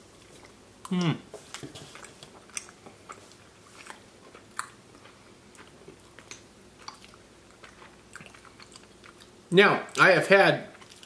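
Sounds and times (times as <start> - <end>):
chewing soft pasta: 0.0 - 10.1, 10.7 - 11.0.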